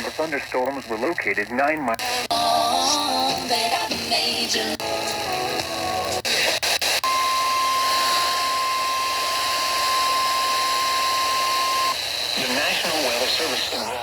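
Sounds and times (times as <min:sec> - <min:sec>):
radio hiss: 0:00.0 - 0:14.0.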